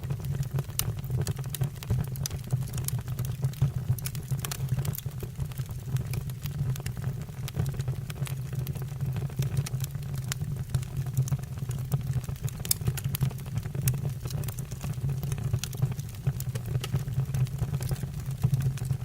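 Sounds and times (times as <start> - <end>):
firewood crackling and popping: 0.0 - 19.0
low rumble of flames: 0.0 - 19.0.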